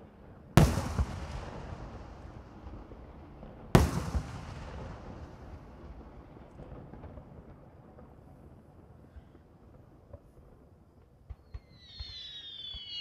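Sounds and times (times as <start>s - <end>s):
rolling echo: 0.0s - 13.0s.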